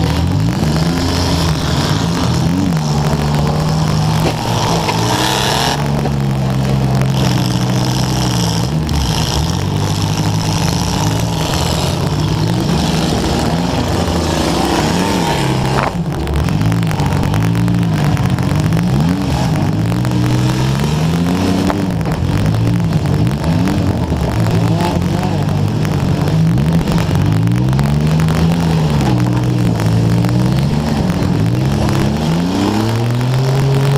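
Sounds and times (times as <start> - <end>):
car engine revving: 0.0 - 33.9
crackling microphone static: 0.0 - 33.9.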